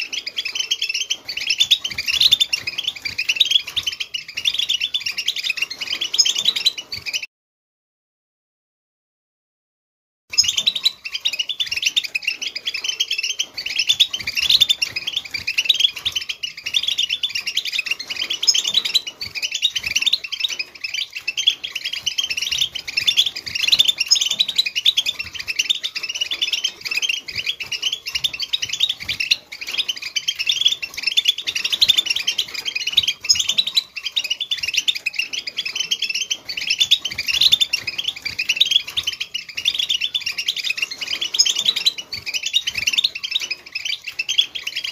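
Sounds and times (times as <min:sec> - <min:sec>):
goldfinch twittering and trilling: 0:00.0 - 0:07.3, 0:10.3 - 0:44.9.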